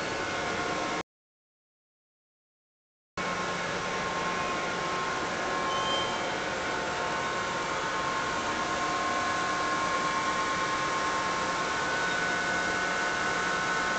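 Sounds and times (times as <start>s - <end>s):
industrial machinery running: 0.0s - 1.0s, 3.2s - 13.9s.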